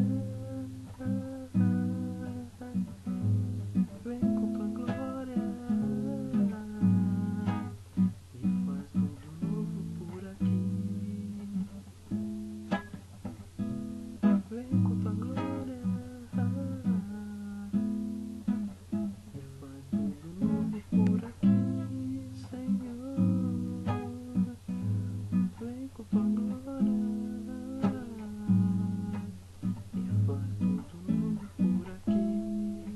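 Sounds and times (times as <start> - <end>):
acoustic guitar strumming: 0.0 - 32.9.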